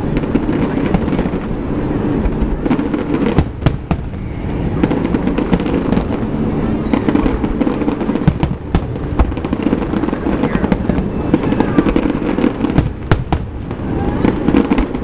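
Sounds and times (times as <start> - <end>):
fireworks bangs and crackles: 0.0 - 15.0
low rumble: 0.0 - 15.0.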